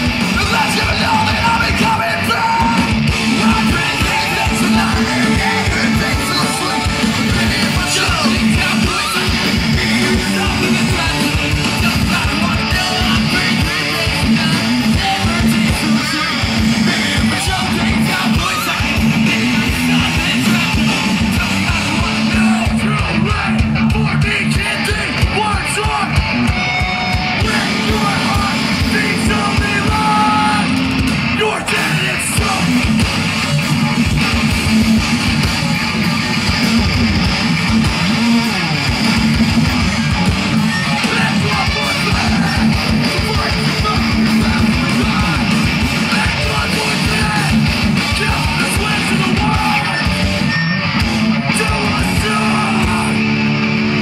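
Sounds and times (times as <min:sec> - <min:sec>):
vocalist singing: 0:00.0 - 0:35.4, 0:36.5 - 0:50.7, 0:51.3 - 0:53.5
distorted electric guitars: 0:00.0 - 0:54.0
drums: 0:00.0 - 0:54.0.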